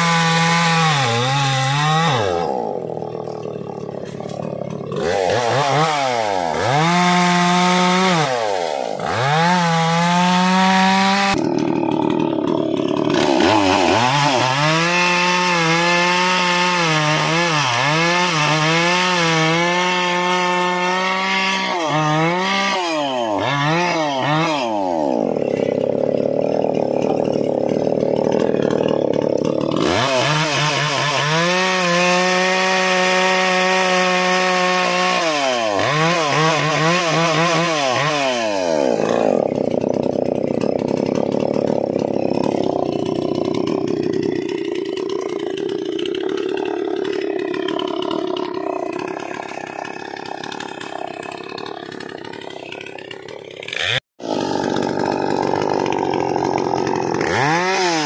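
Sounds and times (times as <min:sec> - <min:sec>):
chainsaw revving: 0:00.0 - 0:58.0
chainsaw sawing through log: 0:00.0 - 0:58.0.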